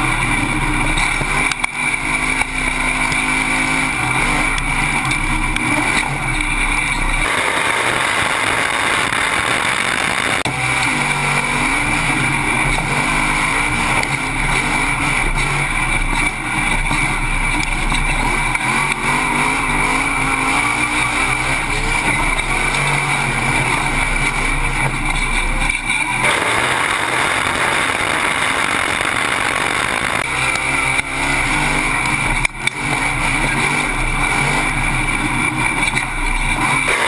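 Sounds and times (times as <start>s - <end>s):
race truck engine revving: 0.0s - 37.0s
steady high whine: 0.0s - 37.0s.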